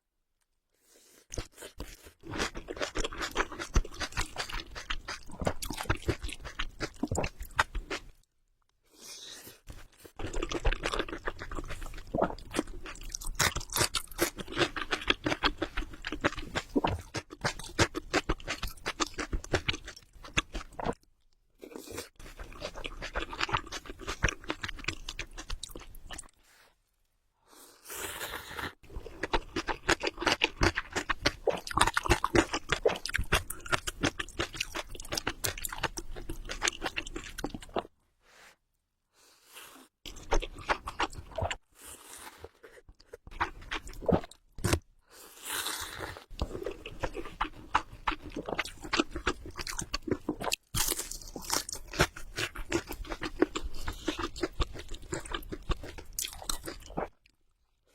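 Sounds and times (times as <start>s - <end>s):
chewing noodles with mouth clicks: 1.3s - 8.2s, 9.6s - 21.0s, 21.7s - 26.3s, 28.6s - 37.9s, 40.1s - 41.6s, 42.4s - 44.8s, 45.6s - 57.4s.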